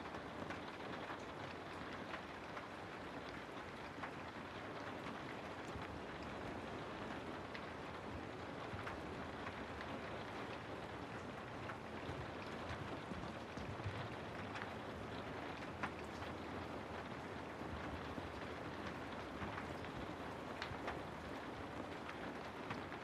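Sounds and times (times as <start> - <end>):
steady rain in trees: 0.0 - 23.0.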